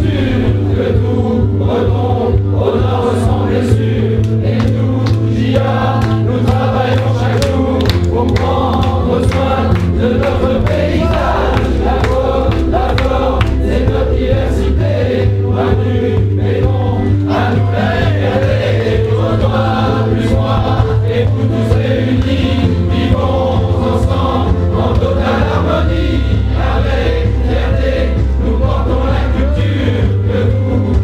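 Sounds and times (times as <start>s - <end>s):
backing track with bass and beat: 0.0s - 31.0s
group singing pop song: 0.0s - 31.0s.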